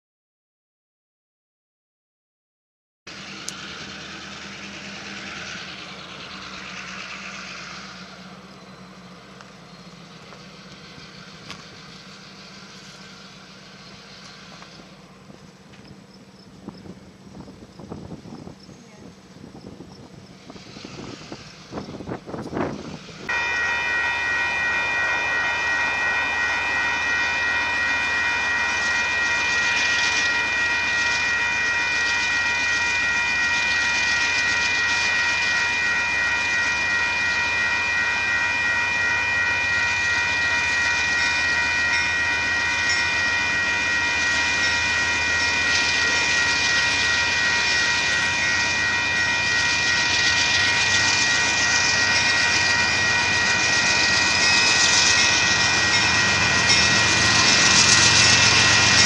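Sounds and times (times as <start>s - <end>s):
crossing warning bell ringing: 3.1s - 59.0s
diesel locomotive rumble: 3.1s - 59.0s
train wheel noise: 3.1s - 59.0s.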